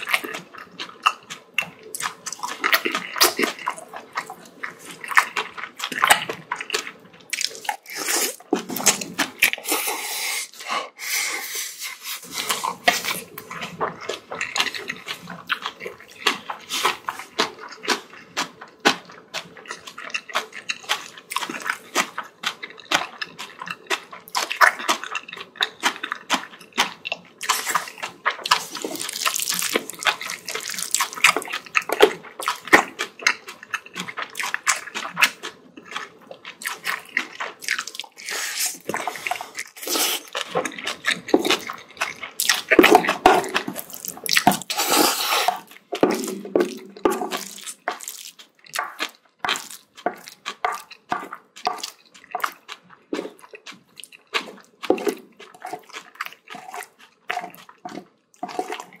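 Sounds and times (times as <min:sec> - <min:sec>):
wet chewing and mouth smacks: 0:00.0 - 0:10.1, 0:12.2 - 0:59.0.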